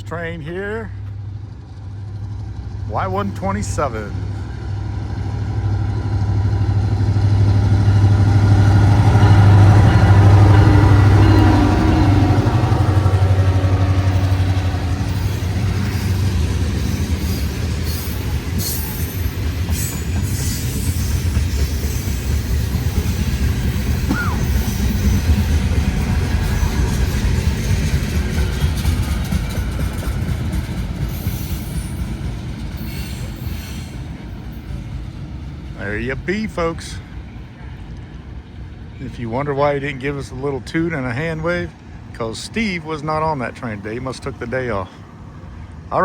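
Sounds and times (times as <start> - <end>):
diesel locomotive engine drone: 0.0 - 46.0
freight cars rumbling past: 0.0 - 46.0.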